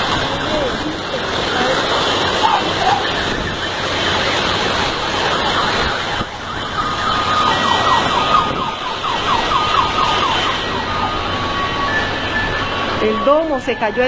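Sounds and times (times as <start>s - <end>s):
electronic siren: 0.0s - 14.0s
heavy rain and hail: 0.0s - 14.0s.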